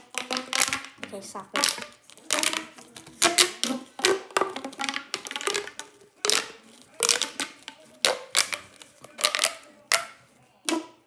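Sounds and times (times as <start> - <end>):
plastic pop tubes popping: 0.0 - 11.0.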